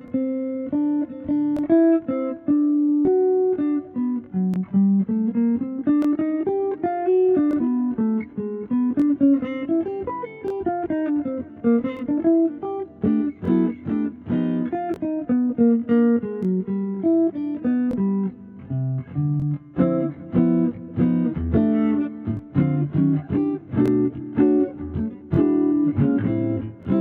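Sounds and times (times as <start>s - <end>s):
plucked guitar melody: 0.0s - 27.0s.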